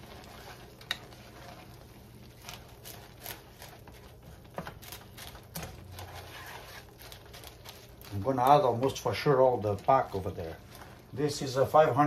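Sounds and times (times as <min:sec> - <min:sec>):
spatula stirring and scraping pan: 0:00.0 - 0:12.0.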